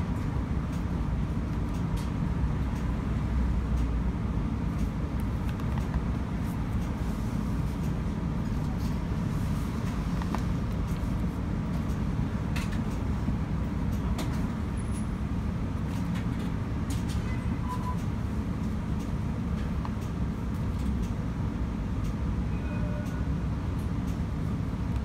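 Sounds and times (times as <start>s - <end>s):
tram interior rumble: 0.0s - 25.0s.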